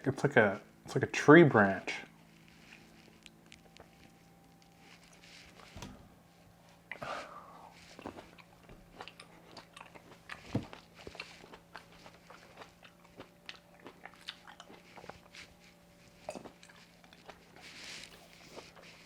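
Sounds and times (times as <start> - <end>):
chewing grapes: 2.2 - 5.7, 6.4 - 19.0.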